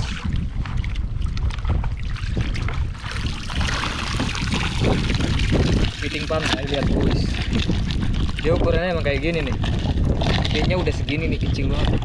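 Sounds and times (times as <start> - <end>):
shallow sea water splashing: 0.0 - 12.0
wind buffeting microphone: 0.0 - 12.0.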